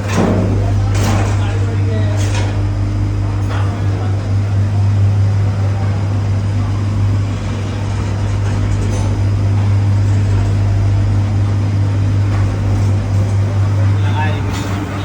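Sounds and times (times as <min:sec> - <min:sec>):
mixer machine humming and rumbling: 0:00.0 - 0:15.0.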